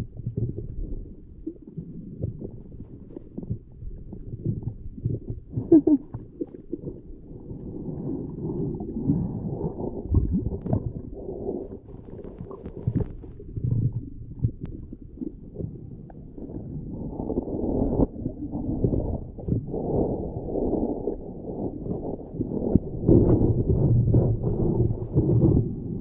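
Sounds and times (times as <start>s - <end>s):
underwater gurgling water: 0.0s - 26.0s
underwater knocks and bumps: 0.0s - 26.0s.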